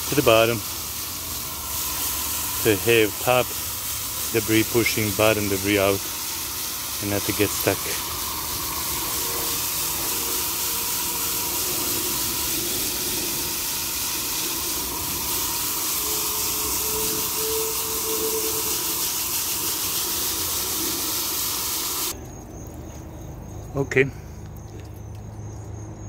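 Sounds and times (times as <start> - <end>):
hose spray splashing on metal fins: 0.0 - 22.2.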